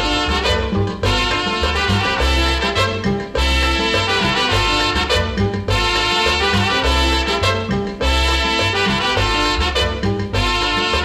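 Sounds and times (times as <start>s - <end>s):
salsa music with brass: 0.0s - 11.0s
steady bass line: 0.0s - 11.0s.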